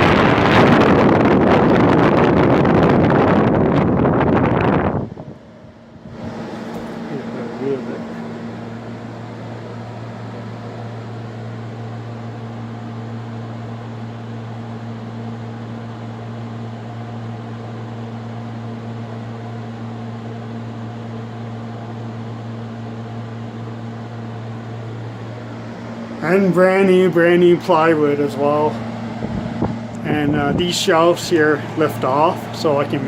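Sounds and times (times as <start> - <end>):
air conditioner hum: 0.0 - 33.0
fan rushing: 0.0 - 33.0.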